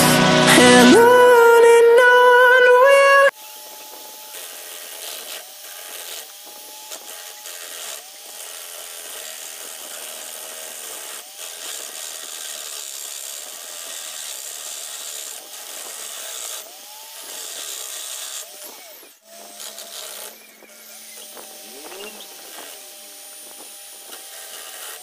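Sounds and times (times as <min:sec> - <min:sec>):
electric drill running: 0:00.0 - 0:25.0
chisel scraping wood: 0:03.4 - 0:25.0.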